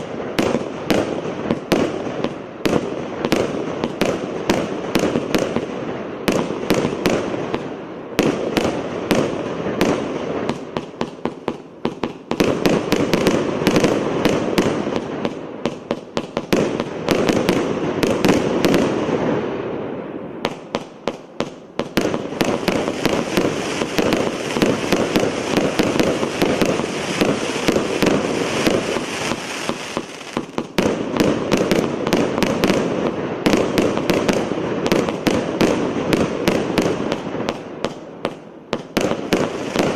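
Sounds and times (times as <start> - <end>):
crackling hiss: 0.0 - 39.9
fireworks volleys: 0.0 - 39.9.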